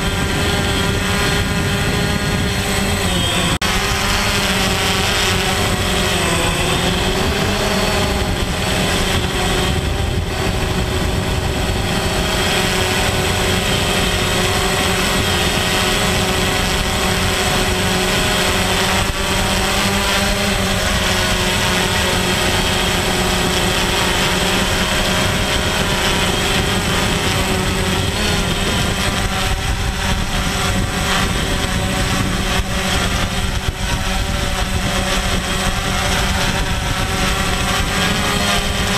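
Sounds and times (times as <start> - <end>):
drone propellers buzzing whine: 0.0 - 38.9.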